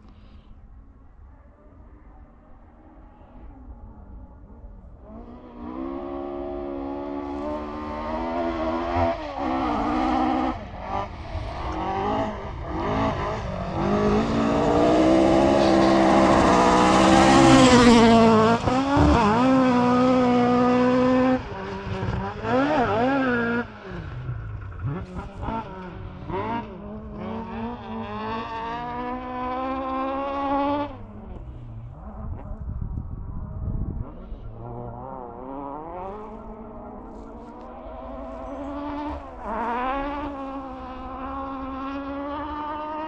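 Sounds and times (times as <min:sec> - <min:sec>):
rally car engine at full throttle: 0:00.0 - 0:43.0.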